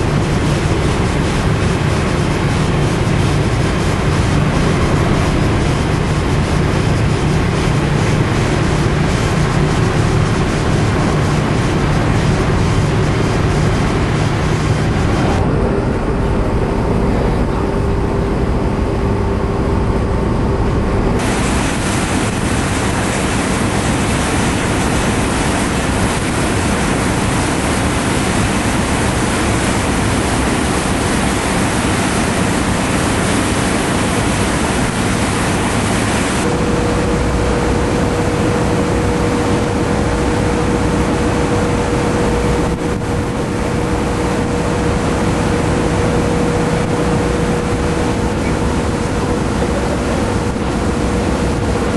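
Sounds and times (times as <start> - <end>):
churning wake water: 0.0 - 51.9
constant low hum: 0.0 - 51.9
ship engine rumble: 0.0 - 51.9.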